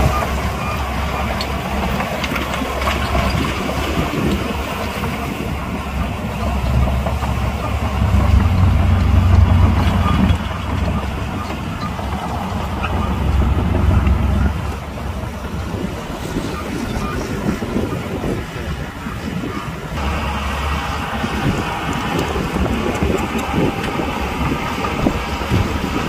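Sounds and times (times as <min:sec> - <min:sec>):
heavy machinery diesel rumble: 0:00.0 - 0:26.0.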